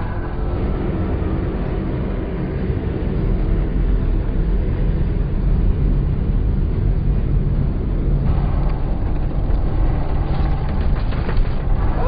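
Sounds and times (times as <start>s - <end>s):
aircraft engines rumbling: 0.0s - 12.0s.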